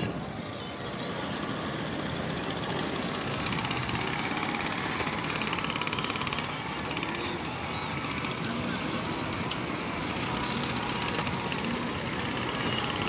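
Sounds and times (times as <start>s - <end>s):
dense background din: 0.0s - 13.0s
pulsing mechanical drone: 0.0s - 13.0s.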